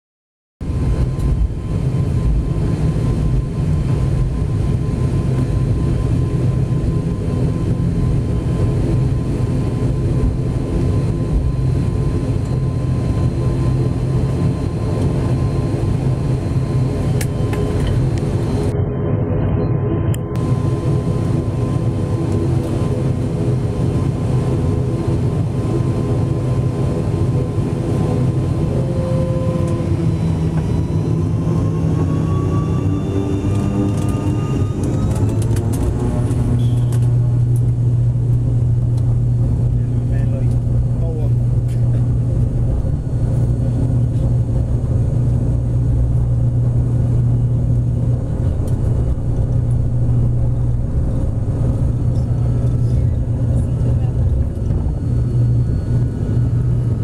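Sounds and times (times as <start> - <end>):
turboprop engines droning: 0.6 - 57.0.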